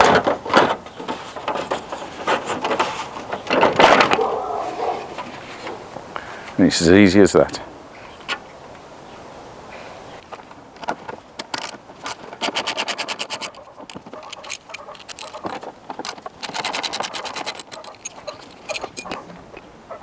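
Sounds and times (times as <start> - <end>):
scraping and handling noises: 0.0 - 6.6, 10.2 - 19.7.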